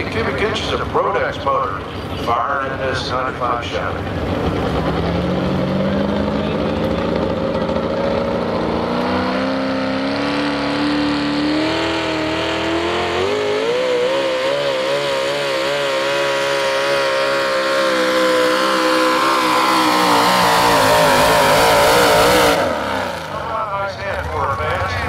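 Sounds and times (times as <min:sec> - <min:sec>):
supercharged engine at full throttle: 0:00.0 - 0:24.8.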